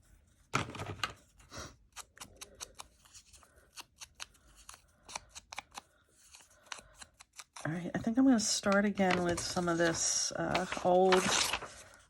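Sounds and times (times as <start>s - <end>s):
paper rustling: 0.3s - 12.0s.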